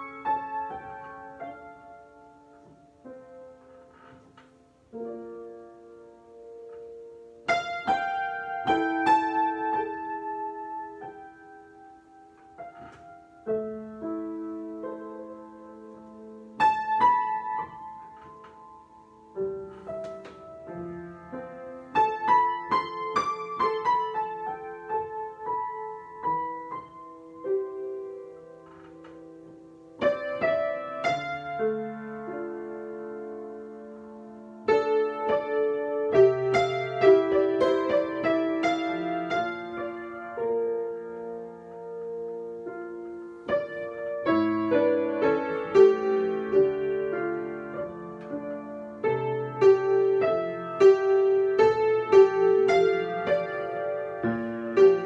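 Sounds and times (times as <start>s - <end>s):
solo piano chords and melody: 0.0s - 55.0s.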